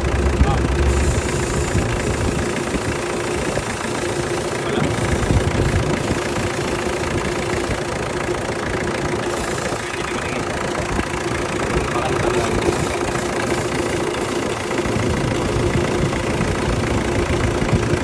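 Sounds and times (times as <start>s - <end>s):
air conditioning compressor hum: 0.0s - 18.0s
vehicle engine idling: 0.0s - 18.0s.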